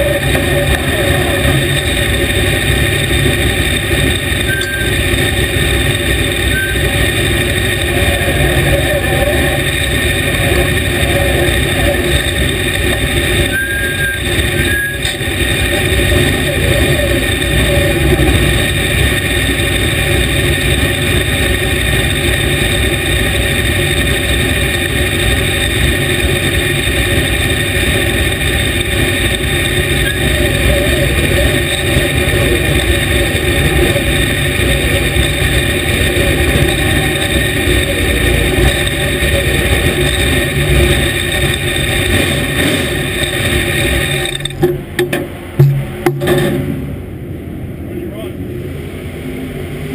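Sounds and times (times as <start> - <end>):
race car engine running: 0.0 - 49.9.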